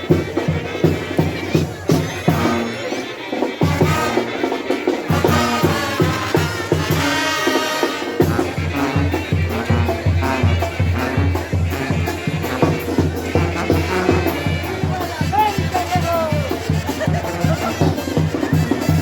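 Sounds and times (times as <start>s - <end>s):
live band music: 0.0s - 19.0s
steady drumbeat: 0.0s - 19.0s.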